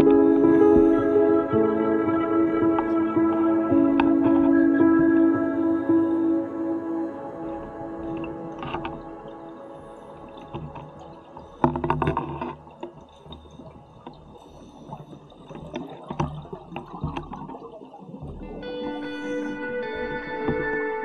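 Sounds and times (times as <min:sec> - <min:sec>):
diver's bubbles gurgling: 0:00.0 - 0:20.7.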